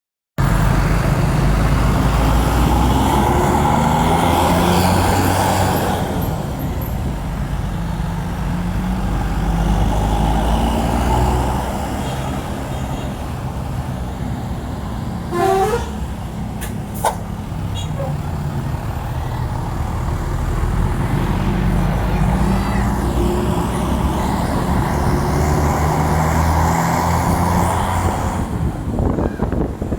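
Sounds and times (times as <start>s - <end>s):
bus diesel engine running: 0.4s - 29.9s.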